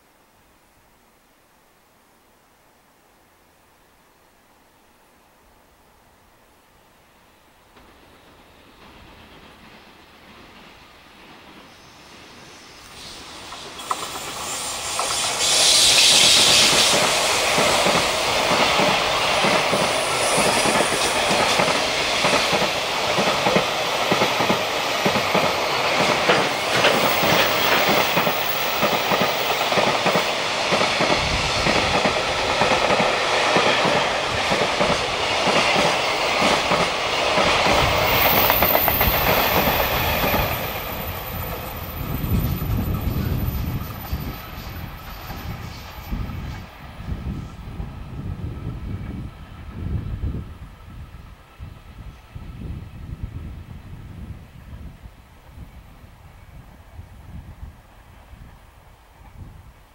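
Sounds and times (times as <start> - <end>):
electric locomotive passing: 7.8 - 59.9.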